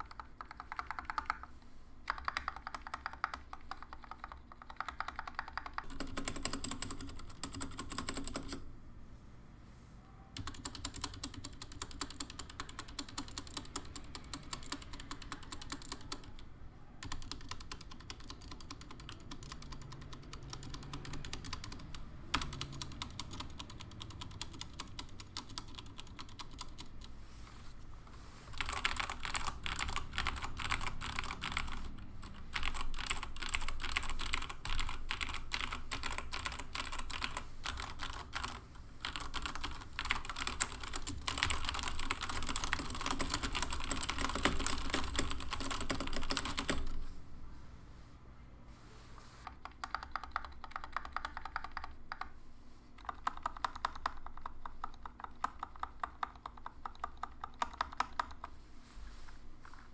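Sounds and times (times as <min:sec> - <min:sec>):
mechanical keyboard typing: 0:00.0 - 0:08.6, 0:10.4 - 0:27.1, 0:28.5 - 0:47.0, 0:49.5 - 0:52.4, 0:53.0 - 0:58.6.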